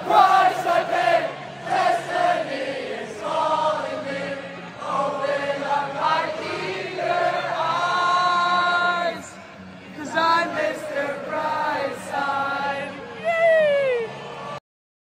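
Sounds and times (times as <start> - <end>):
group of voices singing: 0.0 - 13.3.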